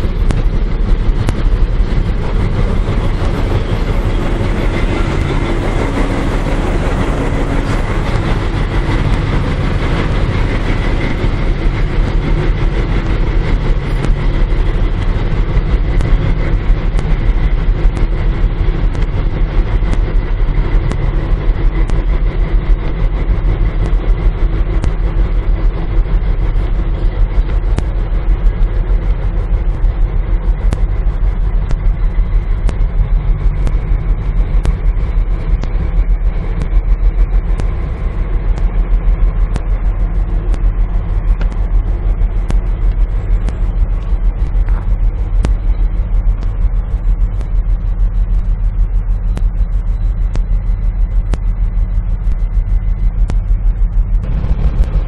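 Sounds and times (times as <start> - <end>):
diesel locomotive engine throbbing: 0.0 - 55.0
faint ticking: 0.0 - 55.0.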